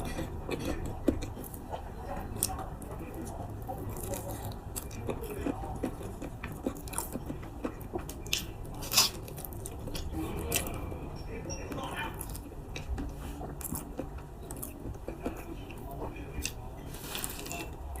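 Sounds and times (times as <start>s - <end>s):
person chewing with wet smacks: 0.0s - 11.0s, 11.7s - 18.0s.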